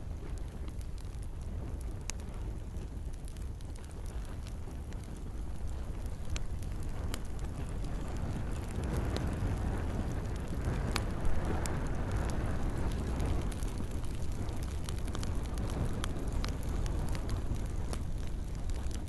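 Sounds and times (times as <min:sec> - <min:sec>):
campfire crackling and popping: 0:00.0 - 0:19.0
gentle rain: 0:00.0 - 0:19.0.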